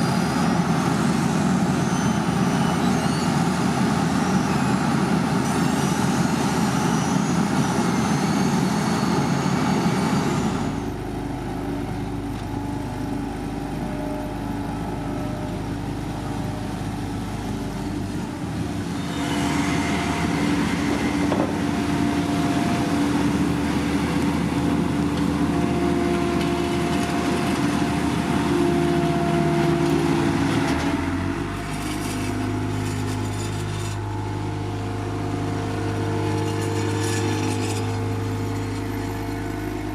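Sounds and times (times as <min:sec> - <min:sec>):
heavy machinery engines running: 0:00.0 - 0:39.9.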